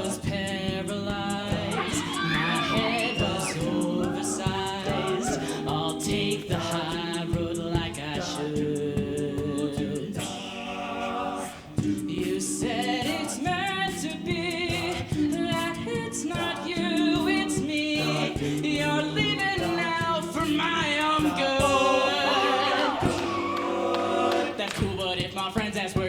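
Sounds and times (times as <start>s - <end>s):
male voices singing in harmony: 0.0s - 26.0s
vocal percussion beat: 0.0s - 26.0s.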